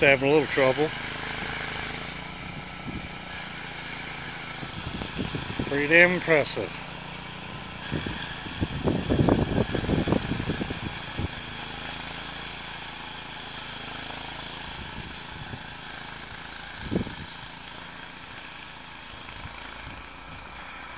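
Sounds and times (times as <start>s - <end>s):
garden tractor engine running: 0.0s - 20.9s.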